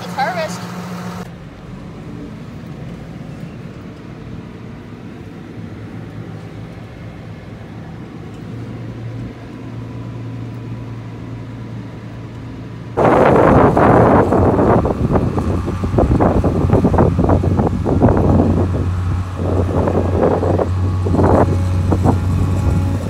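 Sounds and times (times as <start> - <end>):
tractor engine drone from cab: 0.0 - 23.0.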